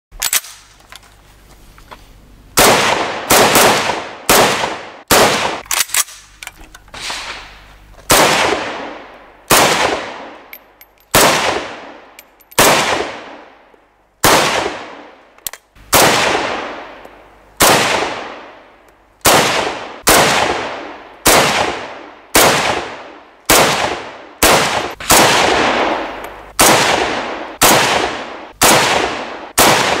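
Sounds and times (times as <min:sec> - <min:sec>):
rifle shots with echo: 0:02.6 - 0:06.3, 0:07.0 - 0:10.5, 0:11.1 - 0:13.6, 0:14.2 - 0:15.2, 0:15.9 - 0:17.0, 0:17.6 - 0:30.0.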